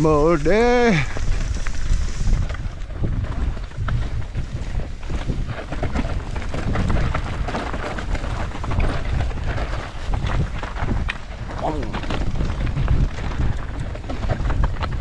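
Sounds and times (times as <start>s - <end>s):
bike clicks and rattles: 0.0s - 15.0s
wind rumbling on microphone: 0.0s - 15.0s.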